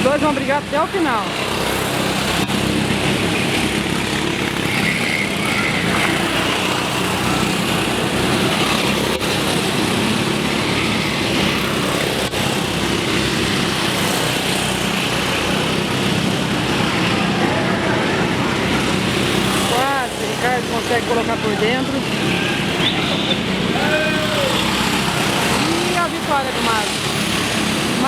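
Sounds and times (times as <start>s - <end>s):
racing kart engines: 0.0s - 28.0s.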